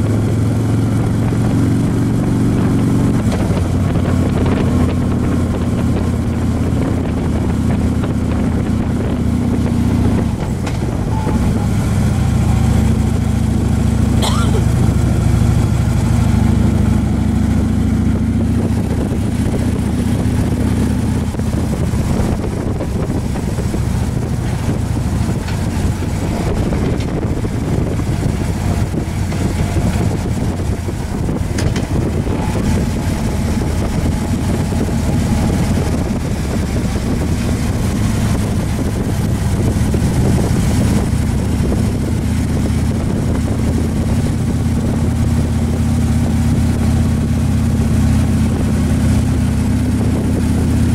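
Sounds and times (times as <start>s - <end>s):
motorcycle engine running: 0.0s - 50.9s
wind noise on microphone: 0.0s - 50.9s.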